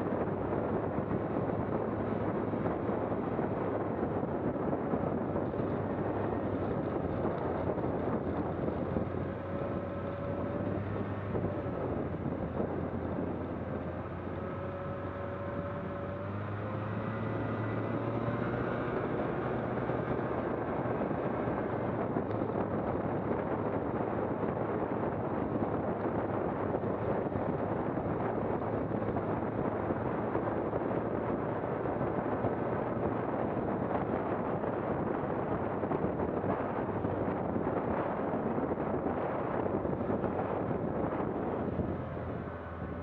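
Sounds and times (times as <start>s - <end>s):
constant rushing noise: 0.0s - 43.0s
vehicle engine running: 0.0s - 43.0s.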